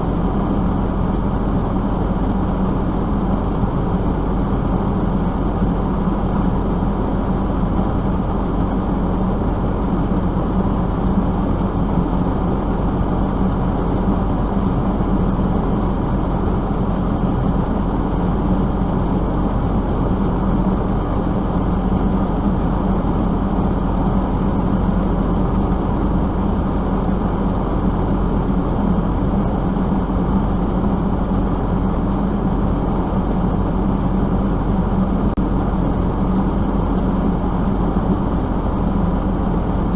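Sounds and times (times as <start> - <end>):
constant hum: 0.0 - 39.9
vehicle engine rumbling: 0.0 - 39.9.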